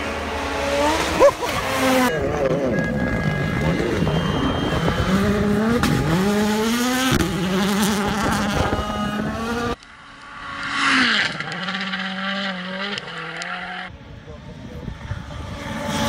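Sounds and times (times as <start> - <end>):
gravel and tyre noise: 0.0 - 16.0
rally car engines accelerating: 0.0 - 16.0.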